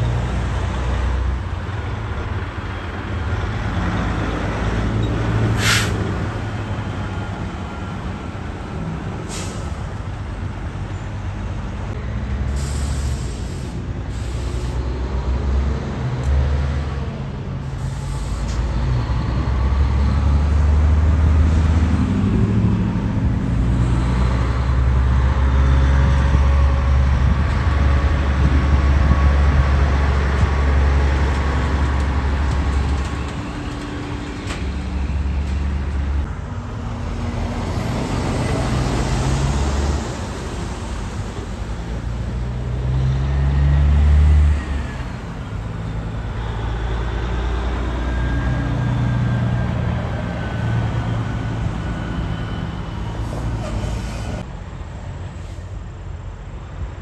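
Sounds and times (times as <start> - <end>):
diesel truck engine rumbling: 0.0 - 57.0.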